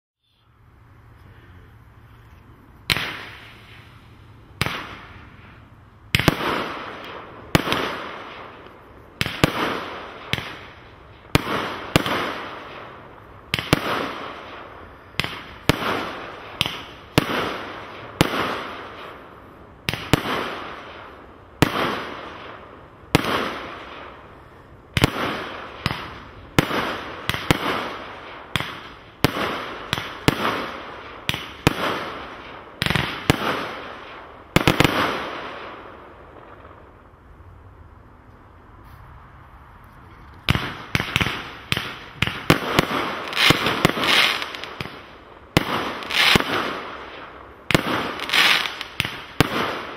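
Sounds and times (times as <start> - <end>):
fireworks banging with echo: 2.9 - 3.9, 4.6 - 19.2, 19.8 - 24.3, 24.9 - 36.9, 40.4 - 49.9.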